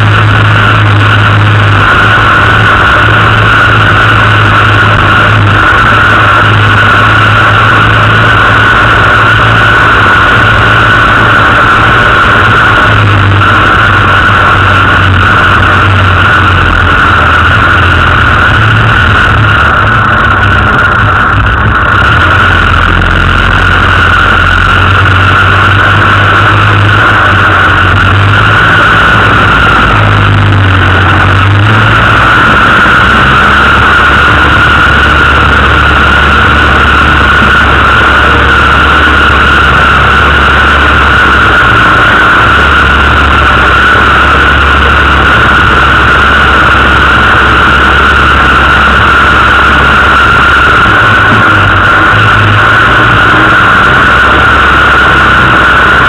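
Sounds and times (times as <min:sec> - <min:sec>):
car engine running: 0:00.0 - 0:56.0
high whine: 0:00.0 - 0:56.0.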